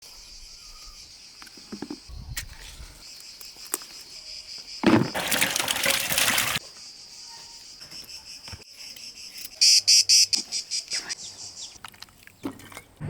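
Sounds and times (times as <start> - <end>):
crickets chirping: 0.0 - 11.8.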